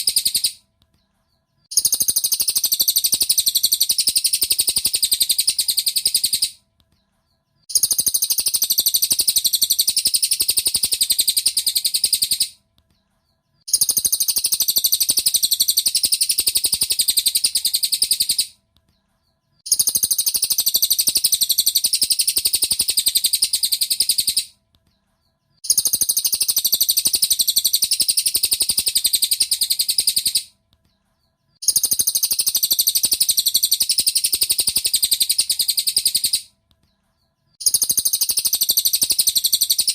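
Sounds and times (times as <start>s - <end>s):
bird twittering trill: 0.0s - 0.6s, 1.3s - 6.6s, 7.3s - 12.6s, 13.2s - 18.6s, 19.2s - 24.6s, 25.2s - 30.5s, 31.2s - 36.5s, 37.2s - 39.9s.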